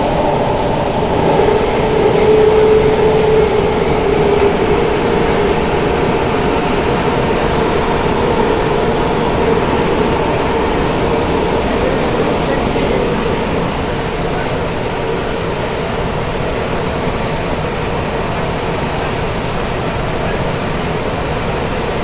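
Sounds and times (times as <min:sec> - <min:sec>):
steady whine: 0:00.0 - 0:22.0
train carriage running noise: 0:00.0 - 0:22.0.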